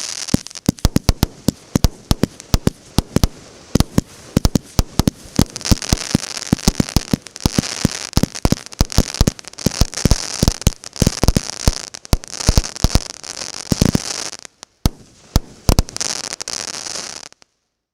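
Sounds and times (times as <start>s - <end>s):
fireworks bangs: 0.0s - 17.4s
fireworks crackle: 0.0s - 17.5s.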